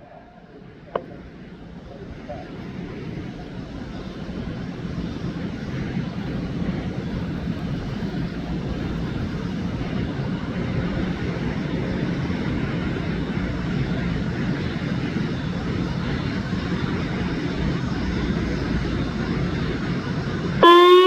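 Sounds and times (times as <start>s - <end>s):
airplane engine rushing: 0.0s - 21.0s.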